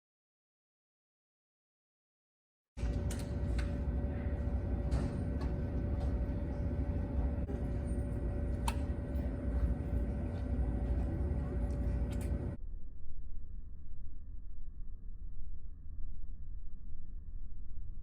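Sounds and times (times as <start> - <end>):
faint steady hum: 2.8 - 18.0.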